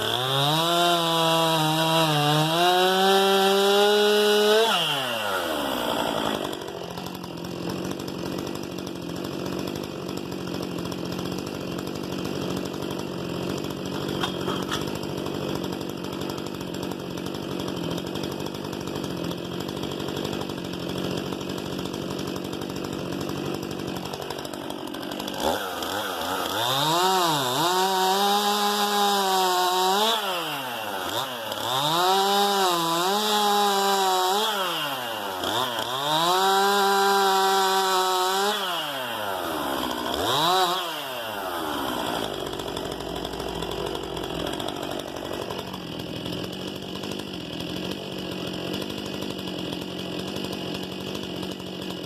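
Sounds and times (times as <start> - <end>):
chainsaw running: 0.0 - 52.0.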